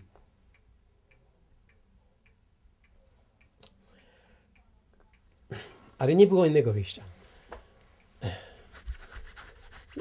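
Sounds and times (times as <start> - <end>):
faint regular ticking: 0.0 - 8.2.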